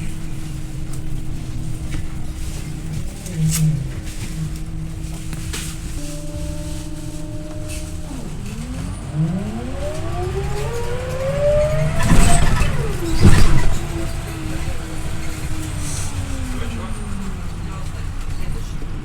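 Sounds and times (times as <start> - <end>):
bus engine accelerating: 0.0 - 19.0.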